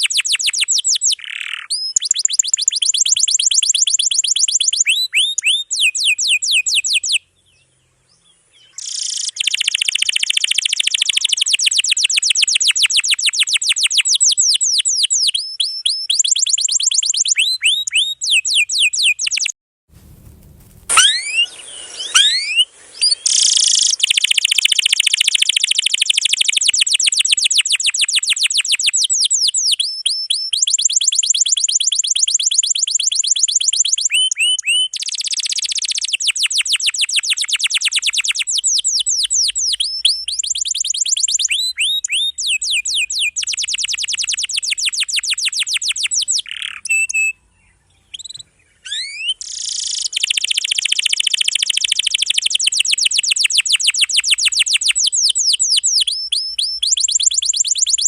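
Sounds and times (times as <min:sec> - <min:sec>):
canary singing trills: 0:00.0 - 0:07.8, 0:08.6 - 0:58.0.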